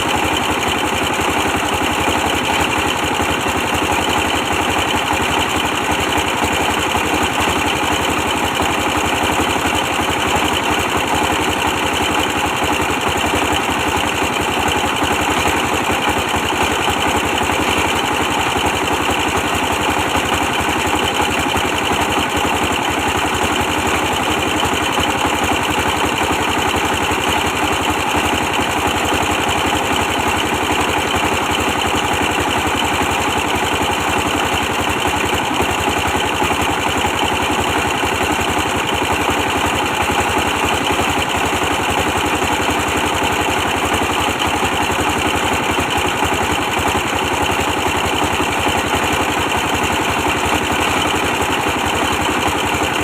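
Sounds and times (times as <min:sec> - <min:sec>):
stationary diesel engine running: 0:00.0 - 0:53.0.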